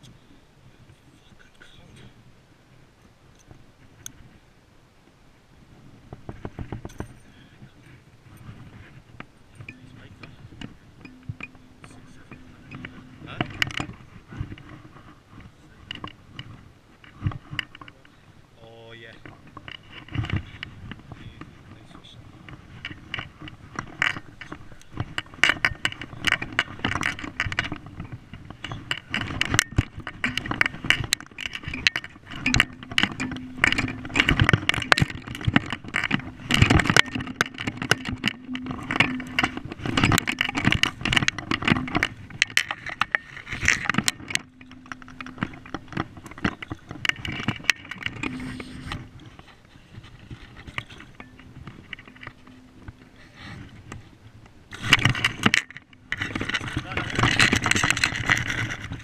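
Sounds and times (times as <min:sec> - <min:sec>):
gear clicking and rattling: 0:06.1 - 0:59.0.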